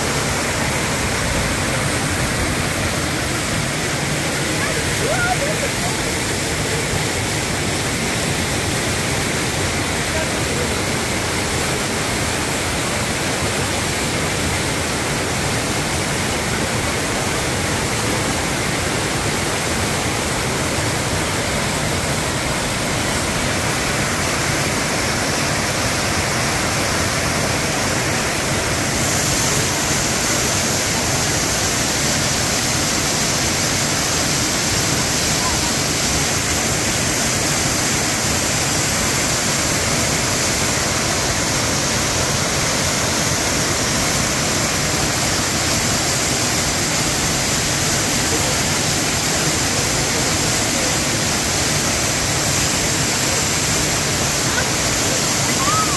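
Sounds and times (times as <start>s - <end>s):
waterfall splashing onto rocks: 0.0s - 55.9s.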